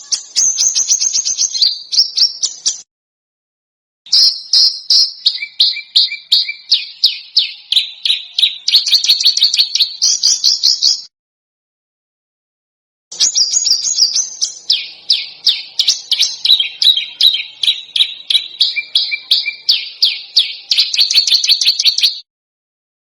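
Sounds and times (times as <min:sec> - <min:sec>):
songbird song: 0:00.0 - 0:02.9, 0:04.1 - 0:11.1, 0:13.1 - 0:22.3.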